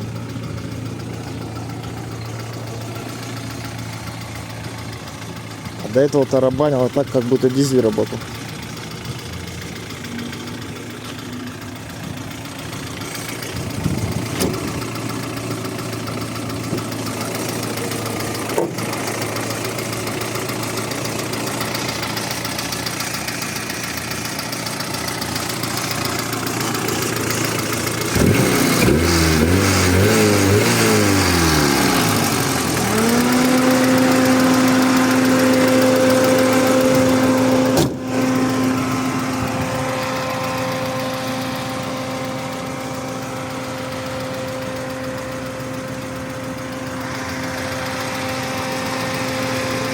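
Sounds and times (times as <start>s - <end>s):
car engine idling with knock: 0.0s - 49.9s
car engine revving: 0.0s - 49.9s.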